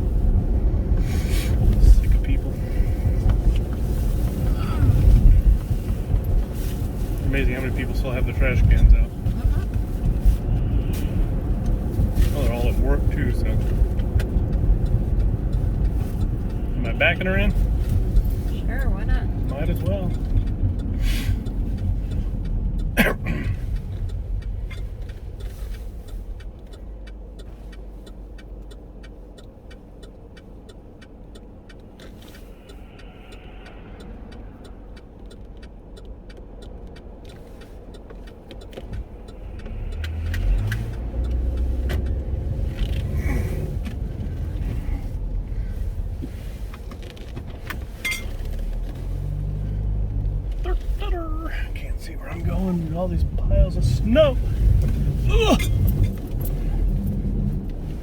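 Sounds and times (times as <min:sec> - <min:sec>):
car engine rumbling: 0:00.0 - 0:58.0
faint ticking: 0:01.6 - 0:58.0.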